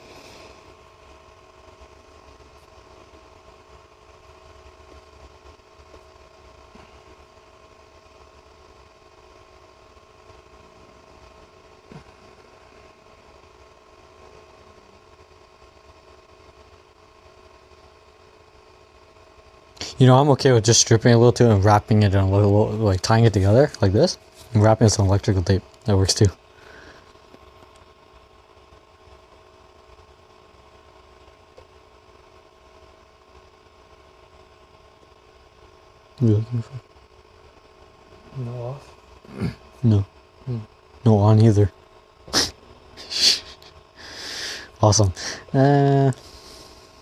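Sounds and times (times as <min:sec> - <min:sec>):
low machine hum: 0:00.0 - 0:47.0.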